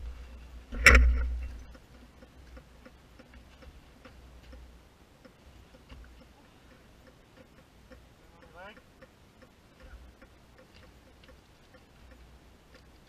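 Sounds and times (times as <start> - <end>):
faint ticking: 0.0 - 13.0.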